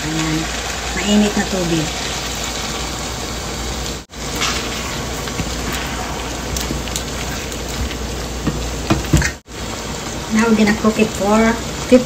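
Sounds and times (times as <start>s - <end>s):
stir-fry sizzling and bubbling: 0.0s - 12.0s.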